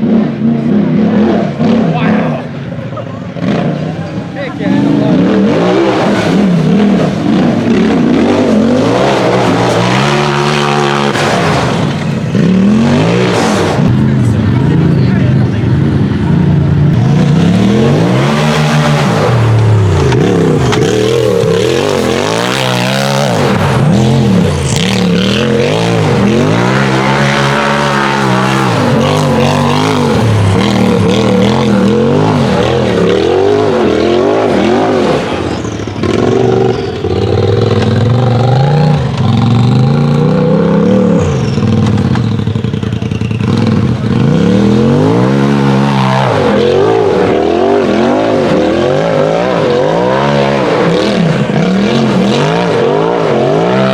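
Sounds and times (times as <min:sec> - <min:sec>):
buggy engine revving: 0:00.0 - 0:53.9.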